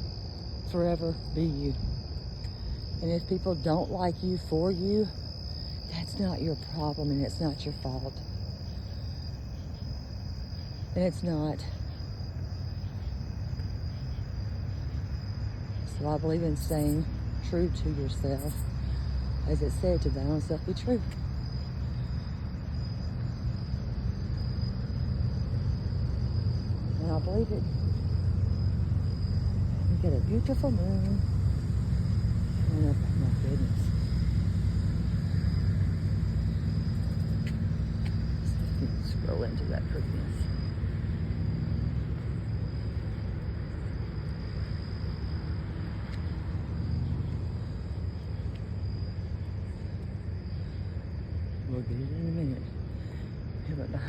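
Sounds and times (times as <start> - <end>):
continuous low rumble: 0.0 - 54.0
crickets chirring: 0.0 - 54.0
insects trilling: 0.0 - 54.0.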